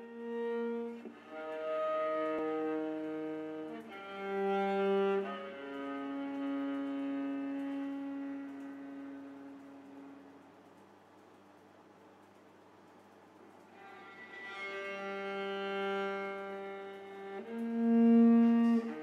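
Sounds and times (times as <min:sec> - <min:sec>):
bowed strings playing held notes: 0:00.0 - 0:10.6, 0:13.4 - 0:19.0.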